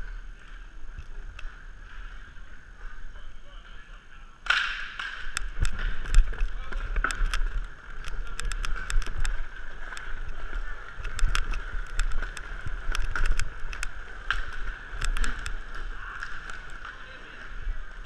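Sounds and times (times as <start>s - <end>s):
inline skate wheels rolling: 0.0s - 18.0s
sharp clacks of skate wheels: 0.0s - 18.0s.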